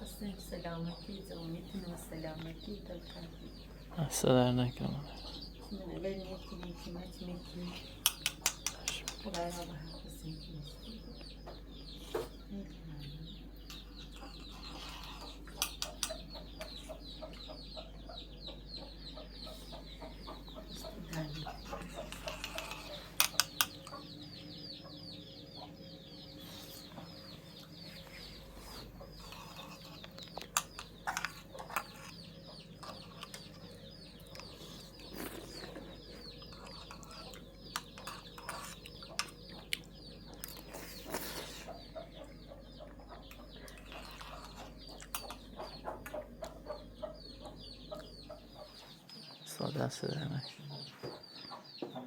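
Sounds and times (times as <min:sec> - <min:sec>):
chickens clucking and peeping: 0:00.0 - 0:52.0.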